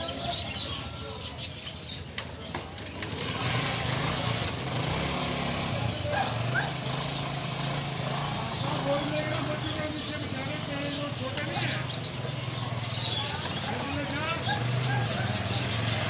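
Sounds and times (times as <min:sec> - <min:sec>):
caged birds chirping: 0:00.0 - 0:16.0
small vehicle engine running: 0:02.2 - 0:16.0.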